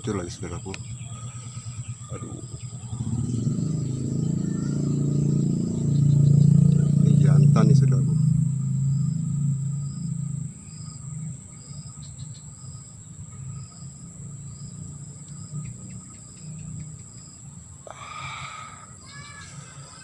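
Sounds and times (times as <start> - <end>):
low rumble: 0.8 - 17.8.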